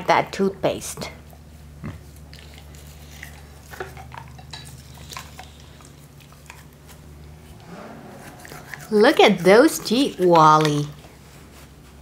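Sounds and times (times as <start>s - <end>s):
low steady hum: 0.0s - 12.0s
toothbrush scraping dog's teeth: 1.5s - 11.2s.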